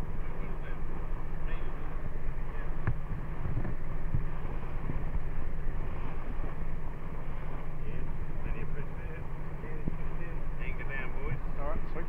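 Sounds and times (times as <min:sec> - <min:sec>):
boat motor running: 0:00.0 - 0:12.0
wind buffeting microphone: 0:00.0 - 0:12.0.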